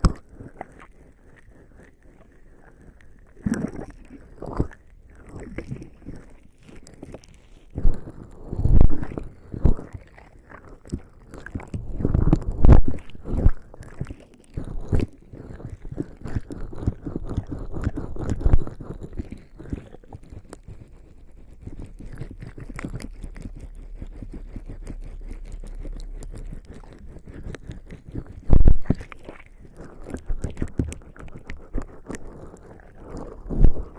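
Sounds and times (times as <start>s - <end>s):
wet skin rubbing on microphone: 0.0s - 33.9s.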